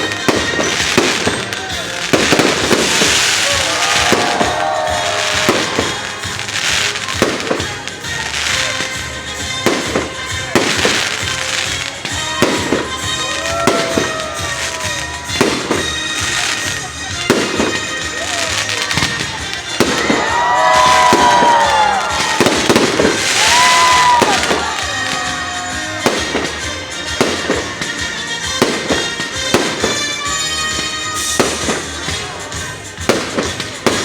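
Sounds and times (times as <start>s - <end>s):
rising and falling firework tones: 0.0s - 27.9s
firework shells bursting: 0.0s - 34.0s
fireworks crackle: 0.0s - 34.0s.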